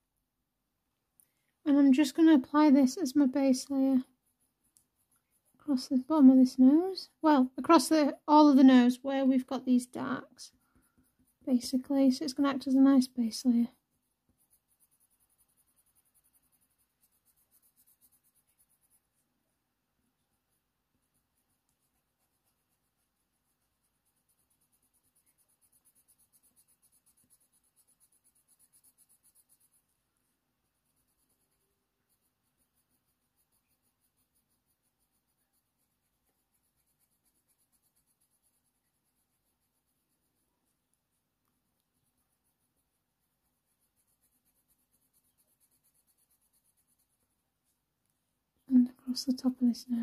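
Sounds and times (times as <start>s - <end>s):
pencil scratching on paper: 1.7s - 19.4s, 20.1s - 47.8s.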